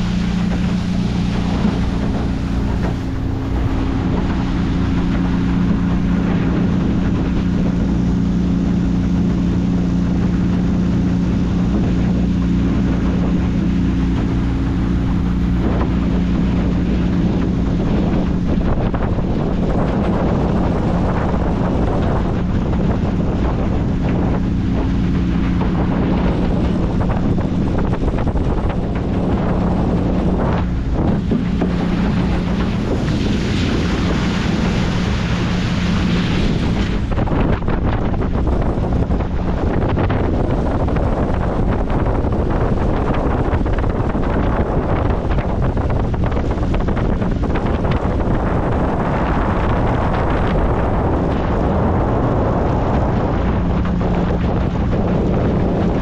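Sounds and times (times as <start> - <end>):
boat engine running: 0.0 - 56.0
water rushing past: 0.0 - 56.0
wind buffeting microphone: 0.0 - 56.0.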